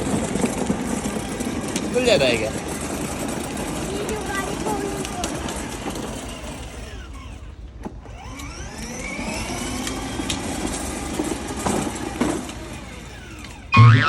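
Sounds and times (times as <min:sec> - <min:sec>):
toy car electric motor whining: 0:00.0 - 0:13.8.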